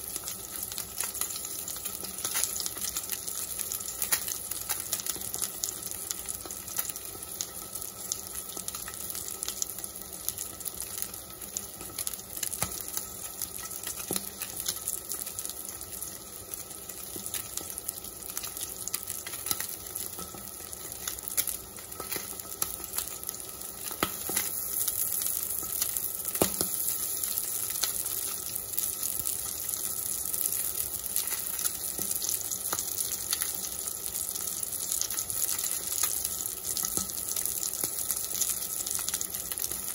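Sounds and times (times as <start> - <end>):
fish frying in oil: 0.0 - 39.9.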